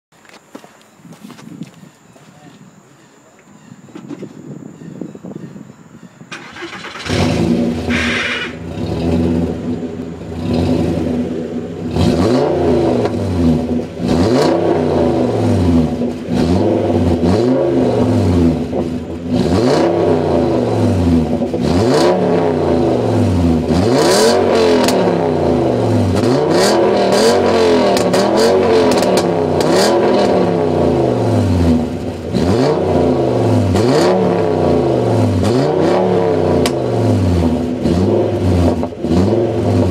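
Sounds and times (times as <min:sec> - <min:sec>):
car engine revving: 0:06.3 - 0:39.9.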